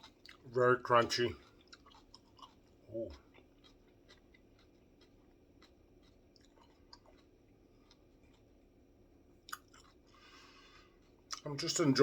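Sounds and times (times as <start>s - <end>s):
chewing crunches: 0.0s - 11.8s.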